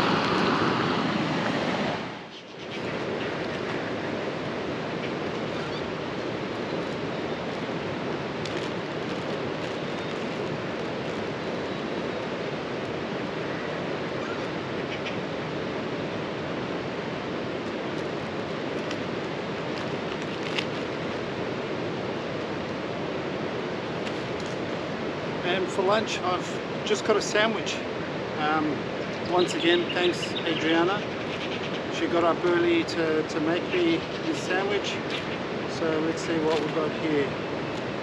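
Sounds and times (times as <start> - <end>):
river rushing: 0.0 - 38.0.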